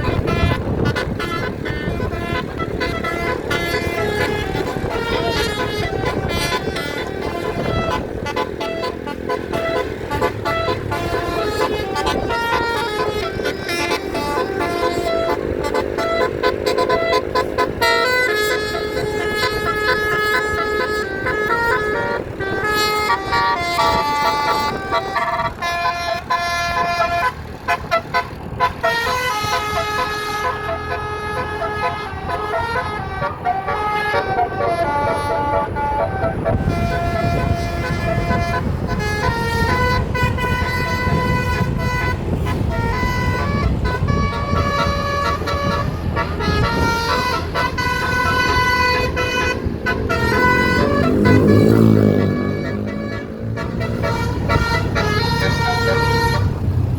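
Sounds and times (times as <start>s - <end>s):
bus engine rumbling: 0.0s - 56.9s
bus horn playing a tune: 0.0s - 56.9s.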